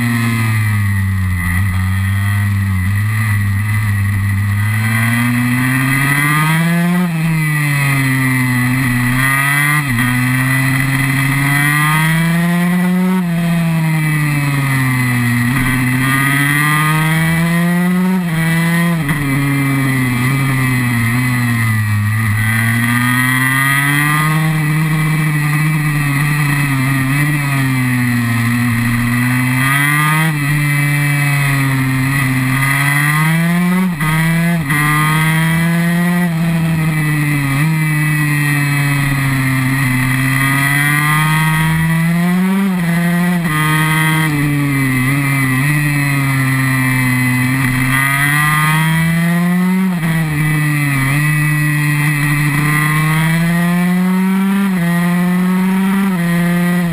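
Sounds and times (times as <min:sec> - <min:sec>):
two-stroke motorcycle engine revving: 0:00.0 - 0:56.9.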